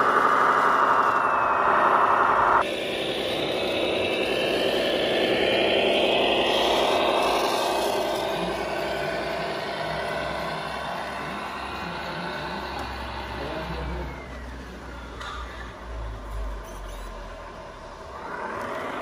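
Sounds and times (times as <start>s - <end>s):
model truck whirring and scraping: 0.0s - 19.0s.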